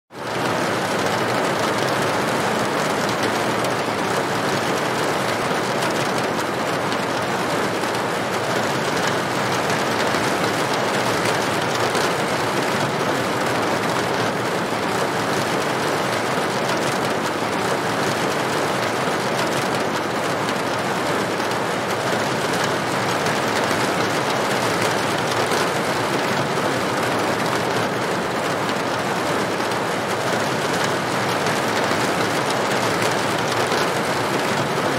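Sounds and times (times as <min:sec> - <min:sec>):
rain on a tin roof: 0:00.1 - 0:34.9.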